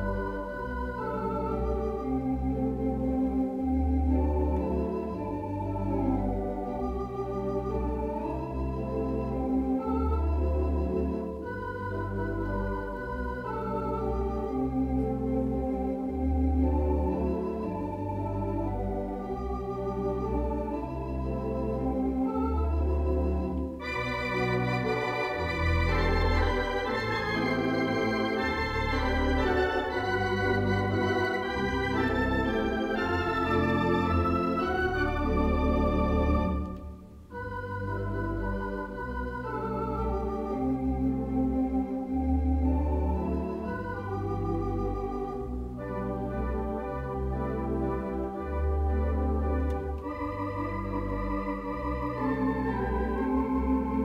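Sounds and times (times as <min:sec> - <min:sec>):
electronic organ playing chords: 0:00.0 - 0:54.0.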